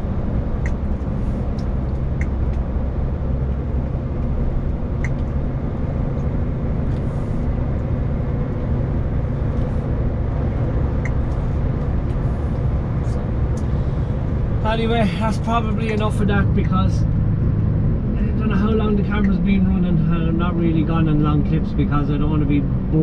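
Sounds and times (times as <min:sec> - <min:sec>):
diesel engine running: 0:00.0 - 0:23.0
road and tyre noise: 0:00.0 - 0:23.0.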